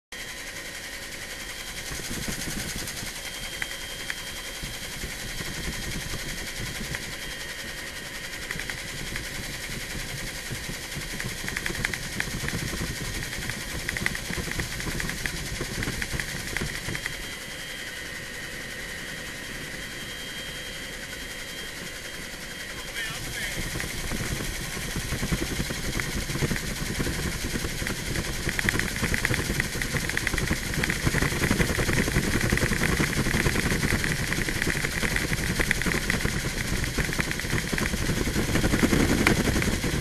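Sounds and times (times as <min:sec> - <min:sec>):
helicopter cabin noise: 0:00.2 - 0:40.0.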